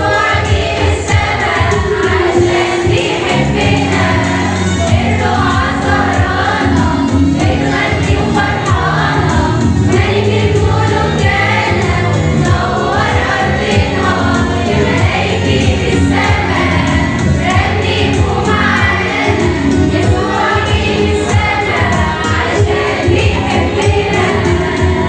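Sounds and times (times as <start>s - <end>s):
instrumental accompaniment with beat: 0.0s - 25.0s
voices singing a hymn: 0.0s - 25.0s.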